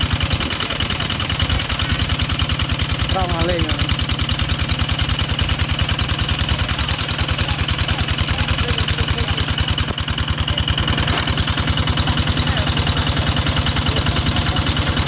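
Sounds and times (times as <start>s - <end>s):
water pump engine running: 0.0s - 15.0s.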